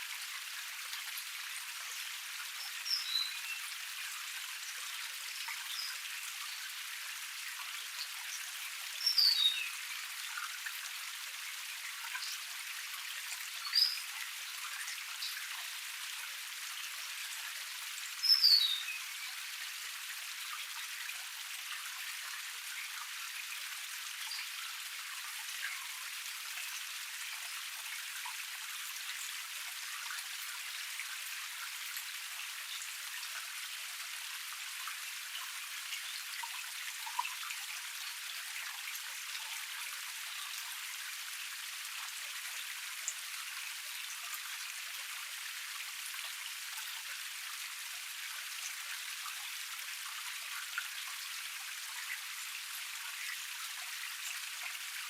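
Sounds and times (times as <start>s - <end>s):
small forest cascade: 0.0s - 55.0s.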